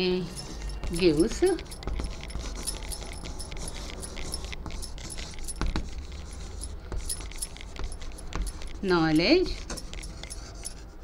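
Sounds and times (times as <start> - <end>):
chalk tapping and scratching: 0.0 - 11.0.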